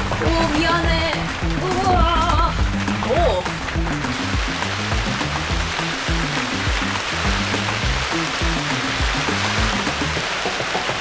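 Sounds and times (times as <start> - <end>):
music with beat and bass: 0.0 - 11.0
steady rushing hiss: 0.0 - 11.0.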